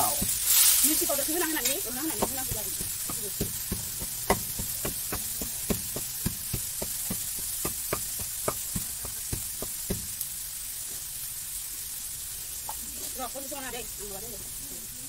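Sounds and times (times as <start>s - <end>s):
meat sizzling in a metal pan: 0.0s - 15.0s.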